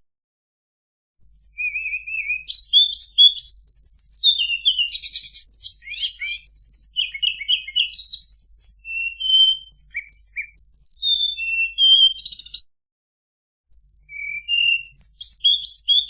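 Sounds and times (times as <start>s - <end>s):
bird singing varied song: 1.2s - 12.7s, 13.7s - 16.0s.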